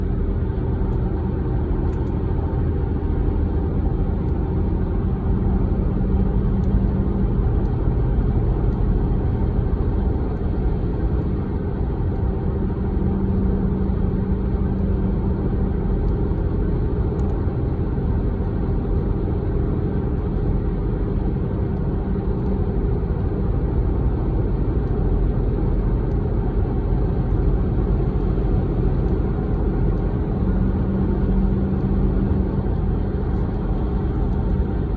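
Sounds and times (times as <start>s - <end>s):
vehicle rumble: 0.0s - 34.9s.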